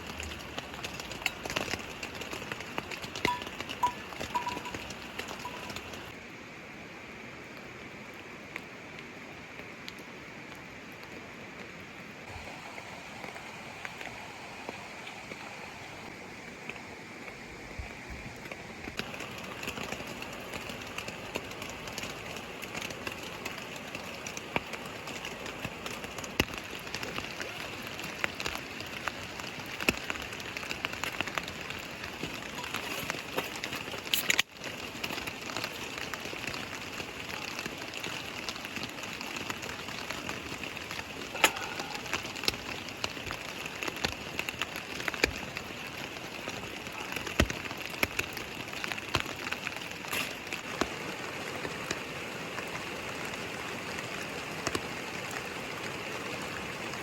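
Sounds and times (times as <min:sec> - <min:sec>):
raindrops ticking on a surface: 0:00.0 - 0:06.2, 0:07.4 - 0:57.0
steady rain hiss: 0:00.0 - 0:57.0.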